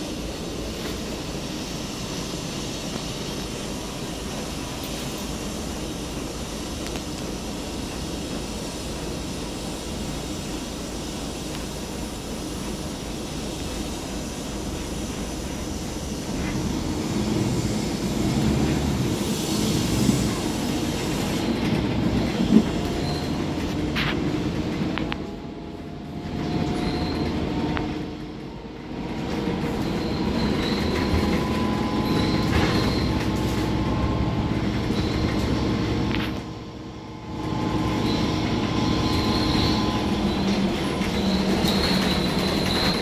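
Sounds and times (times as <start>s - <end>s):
bus engine and road rumble: 0.0s - 43.0s.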